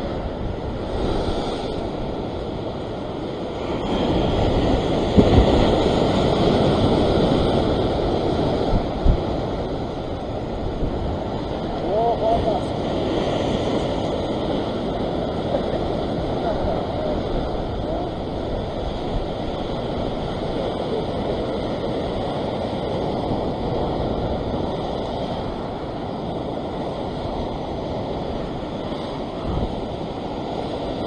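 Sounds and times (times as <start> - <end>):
surf breaking against rocks: 0.0 - 31.0
wind buffeting microphone: 0.0 - 31.0.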